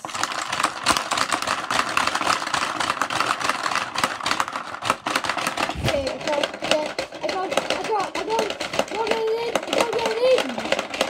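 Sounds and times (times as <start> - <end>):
balls rattling across board: 0.0 - 11.0
plastic game levers clattering: 0.0 - 11.0.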